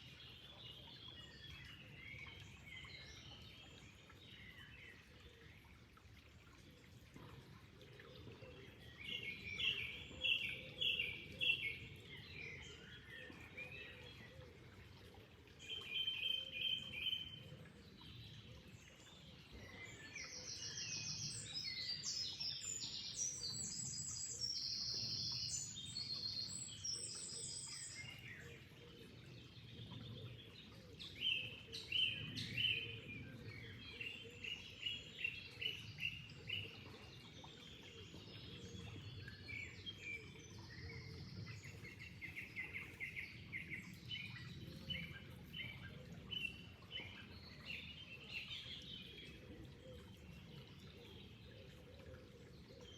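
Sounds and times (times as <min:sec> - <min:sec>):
faint rush of water: 0:00.0 - 0:52.9
songbirds chirping and trilling: 0:00.0 - 0:52.9.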